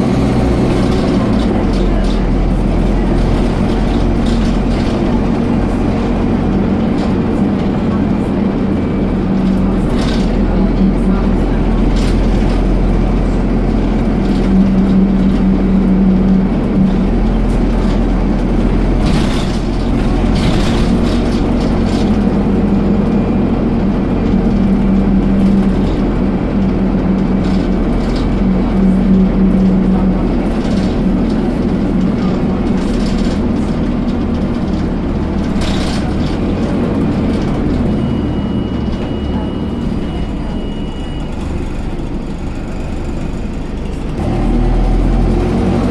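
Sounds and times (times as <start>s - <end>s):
bus engine and road noise: 0.0s - 45.9s
strong low drone: 0.0s - 45.9s.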